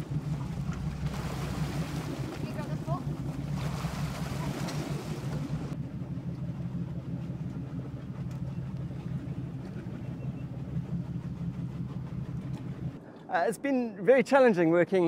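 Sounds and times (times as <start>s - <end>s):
boat engine humming: 0.0s - 13.0s
water splashing and rushing: 0.0s - 13.0s.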